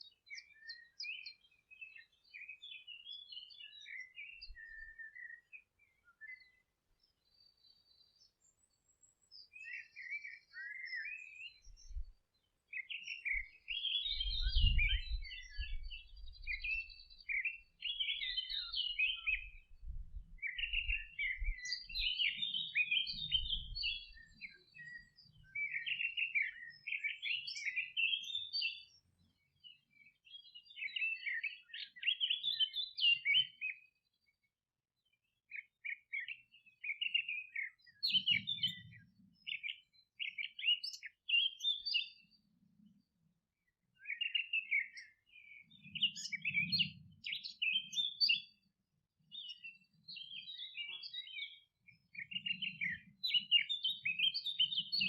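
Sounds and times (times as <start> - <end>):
small songbirds twittering: 0.0 - 55.0.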